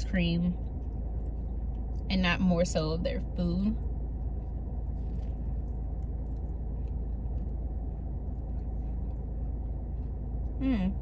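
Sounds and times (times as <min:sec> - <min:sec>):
low rumble in car cabin: 0:00.0 - 0:11.0
soft chewing: 0:00.5 - 0:02.1, 0:03.7 - 0:11.0.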